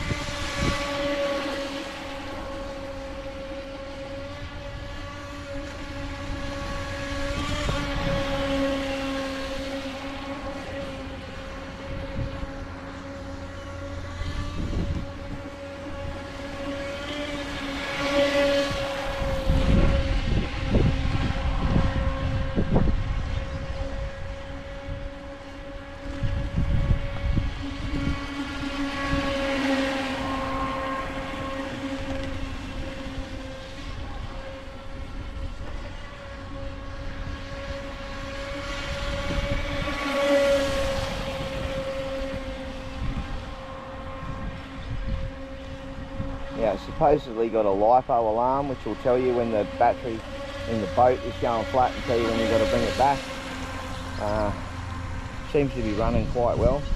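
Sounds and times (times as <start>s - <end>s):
electric motor whining: 0.0s - 56.9s
wind rumbling on microphone: 0.0s - 56.9s.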